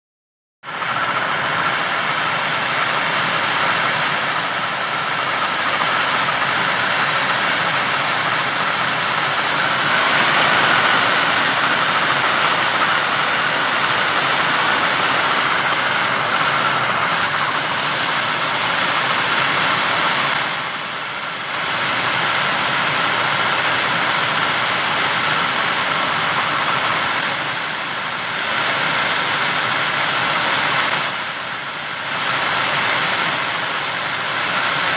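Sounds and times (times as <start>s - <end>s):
blowtorch flame hissing: 0.7s - 34.9s.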